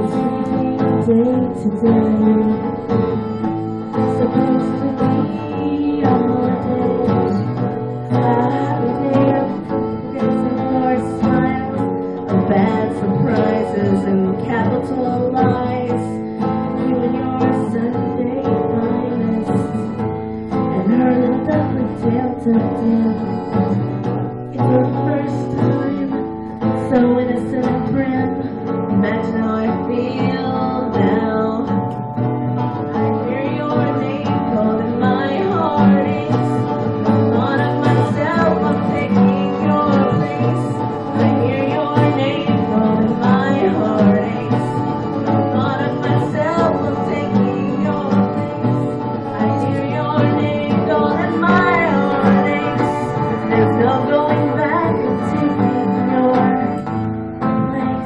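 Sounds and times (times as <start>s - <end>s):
fiddle: 0.0s - 58.0s
strummed acoustic guitar: 0.0s - 58.0s
woman singing: 0.0s - 58.0s.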